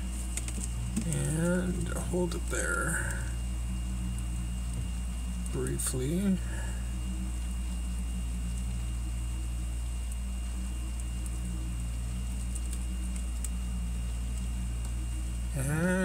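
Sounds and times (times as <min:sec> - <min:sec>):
freezer compressor humming: 0:00.0 - 0:16.0.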